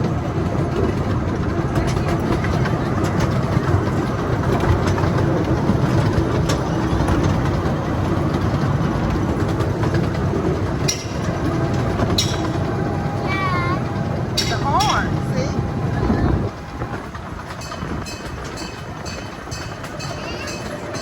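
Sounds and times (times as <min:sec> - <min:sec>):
train cars rumbling and rattling: 0:00.0 - 0:21.0.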